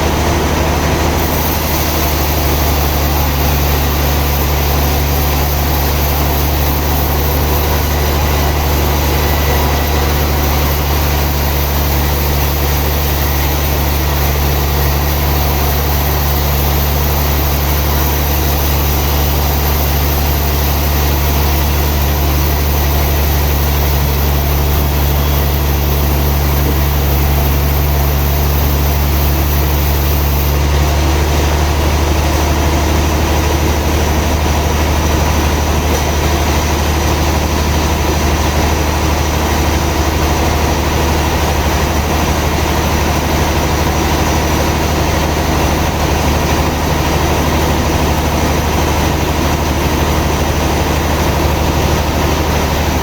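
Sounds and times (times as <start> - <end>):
sawmill machinery droning: 0.0 - 53.0.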